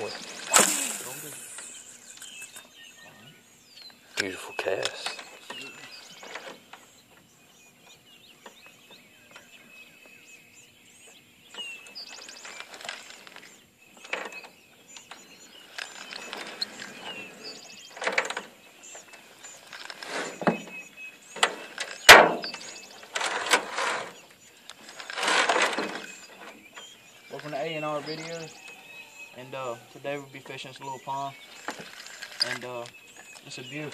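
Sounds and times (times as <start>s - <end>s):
faint bird chirps: 0.0s - 33.9s.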